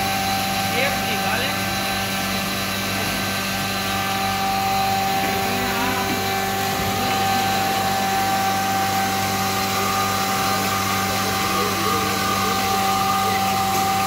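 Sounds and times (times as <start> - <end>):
electric machinery humming and whining: 0.0 - 14.0.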